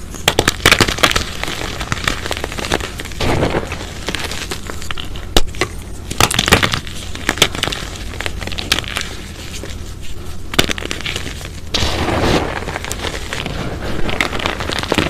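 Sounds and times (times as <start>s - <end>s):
chalk crunching and cracking: 0.0s - 15.0s
gritty crumbling: 0.0s - 15.0s.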